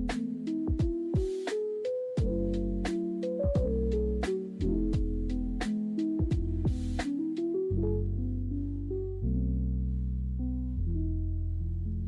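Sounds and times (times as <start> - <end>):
instrumental music with bass: 0.0 - 12.0.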